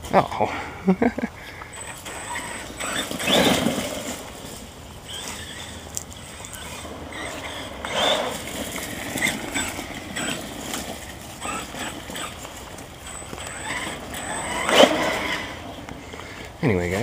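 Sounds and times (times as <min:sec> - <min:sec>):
rc truck motor whine: 0:01.6 - 0:17.0
rattles and scrapes on ground: 0:01.7 - 0:17.0.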